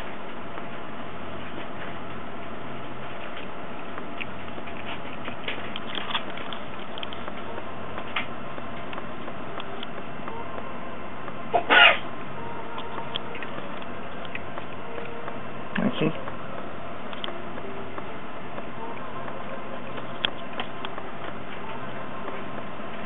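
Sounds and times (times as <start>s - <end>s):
cat eating clicks: 3.1s - 11.8s, 12.7s - 23.0s.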